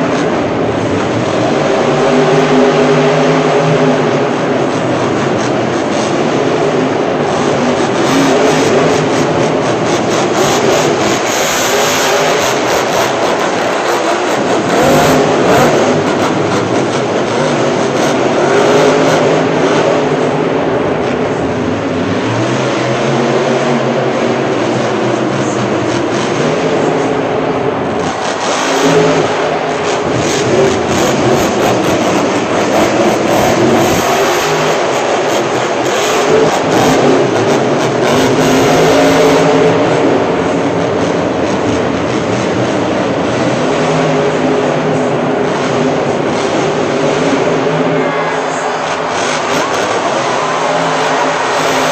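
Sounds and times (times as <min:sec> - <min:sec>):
monster truck engines revving: 0:00.0 - 0:51.9.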